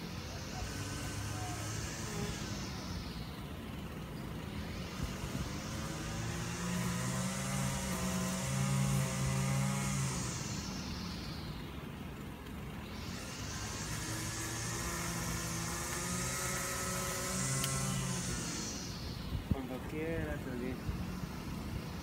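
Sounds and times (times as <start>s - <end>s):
steady low hum: 0.0s - 22.0s
vehicle engine: 0.0s - 22.0s.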